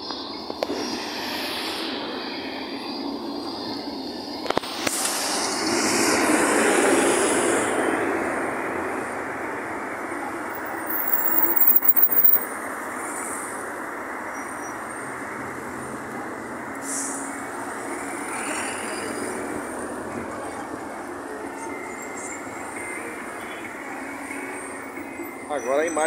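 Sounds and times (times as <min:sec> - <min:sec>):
cars and buses driving past: 0:00.0 - 0:26.0.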